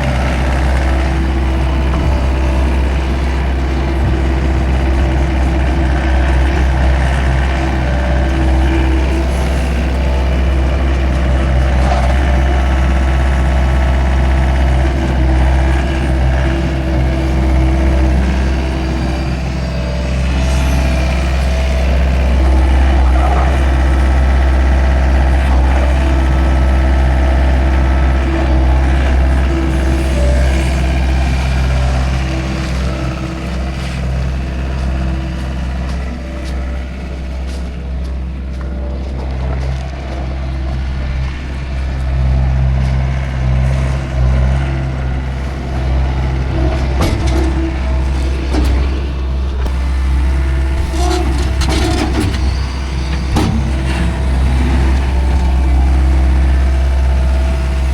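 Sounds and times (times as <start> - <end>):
farm machinery engine humming: 0.0 - 57.9.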